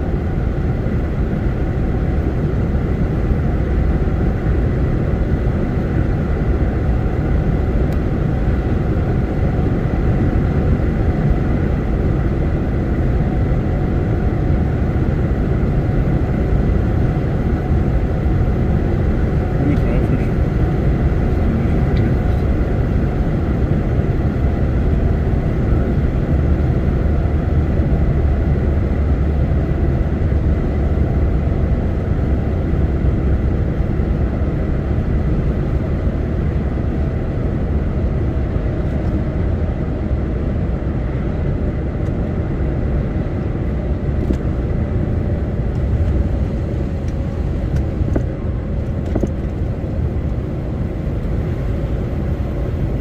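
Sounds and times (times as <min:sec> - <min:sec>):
truck engine and road drone: 0:00.0 - 0:53.0.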